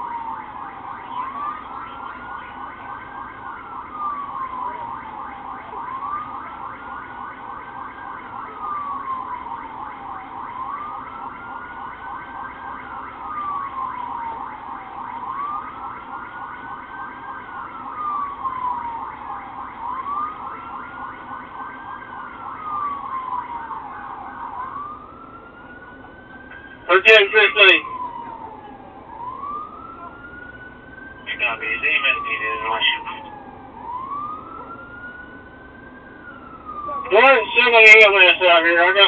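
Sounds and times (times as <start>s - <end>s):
police siren wailing: 0.0s - 39.0s.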